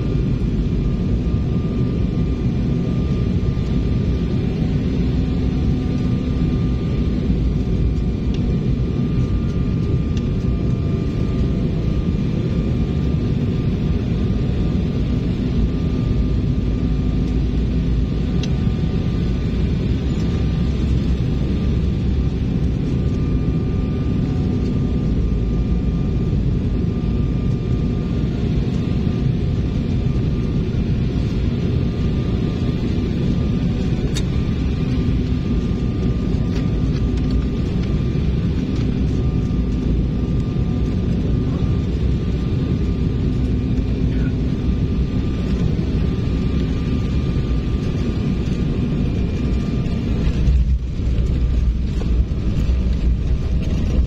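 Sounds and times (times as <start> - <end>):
faint whining tones: 0.0 - 54.0
jet engines and airflow roar: 0.0 - 54.0.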